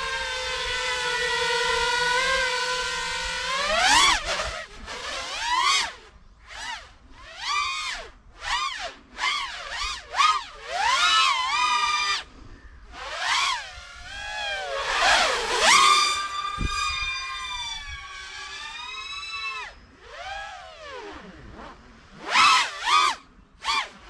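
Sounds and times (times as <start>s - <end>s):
drone motors whining: 0.0s - 21.6s.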